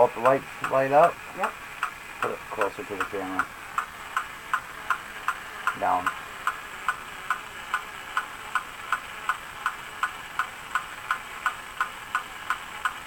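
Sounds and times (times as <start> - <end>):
faint motor hum: 0.0 - 13.0.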